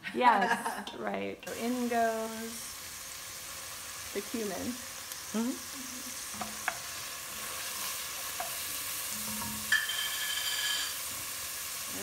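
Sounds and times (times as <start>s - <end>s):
onions sizzling: 0.2s - 12.0s.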